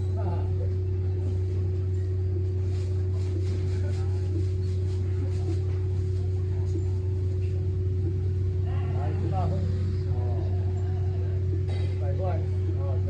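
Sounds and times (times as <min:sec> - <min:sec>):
faint voices: 0:00.0 - 0:13.0
low machine hum: 0:00.0 - 0:13.0.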